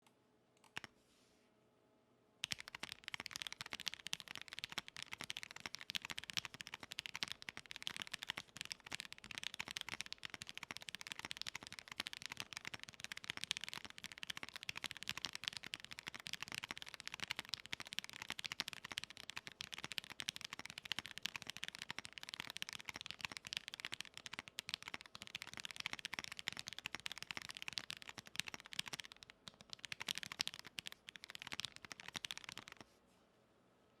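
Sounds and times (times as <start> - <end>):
mechanical keyboard keystroke clacks: 2.4 - 32.8.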